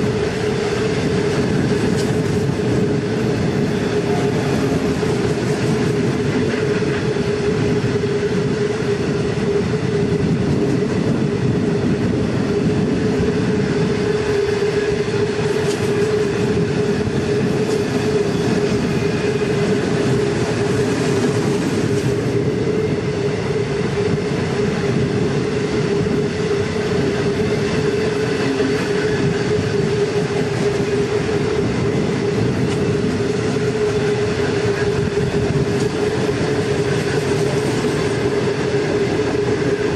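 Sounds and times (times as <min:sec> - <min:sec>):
freight train rolling on rails: 0:00.0 - 0:39.9.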